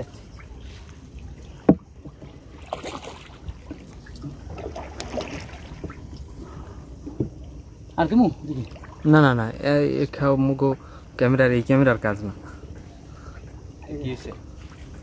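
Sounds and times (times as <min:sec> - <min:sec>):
boat engine low rumble: 0:00.0 - 0:15.0
water noise: 0:00.0 - 0:15.0.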